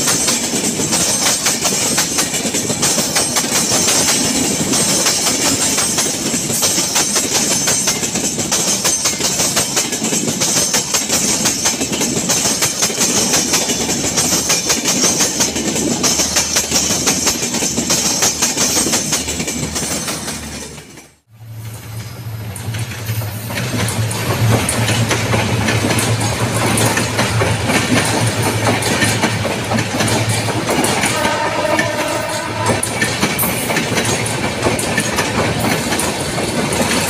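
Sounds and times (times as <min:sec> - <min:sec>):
wheels clicking over rail joints: 0:00.0 - 0:21.2, 0:21.8 - 0:37.0.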